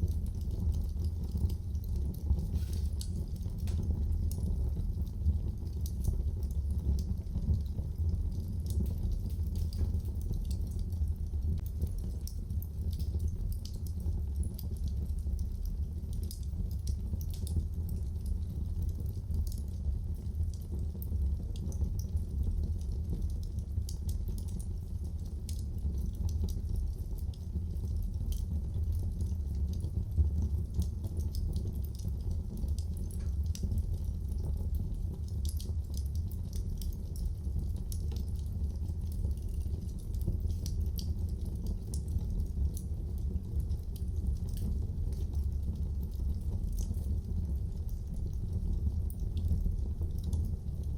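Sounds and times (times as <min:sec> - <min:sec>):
fire crackles and pops: 0:00.0 - 0:50.9
wood fire rumbling: 0:00.0 - 0:50.9.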